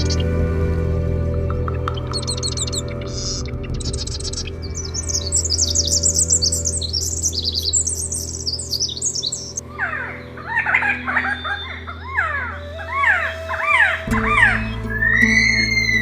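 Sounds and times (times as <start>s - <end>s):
small birds twittering: 0.0s - 0.4s, 1.2s - 16.0s
soft music drone: 0.0s - 16.0s
bird with low arching calls: 1.3s - 16.0s.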